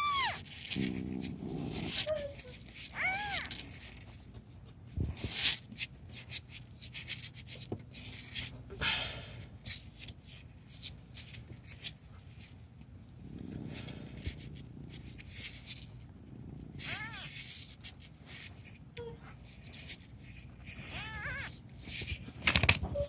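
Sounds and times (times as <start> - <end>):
soft rustling and scraping: 0.0 - 23.0.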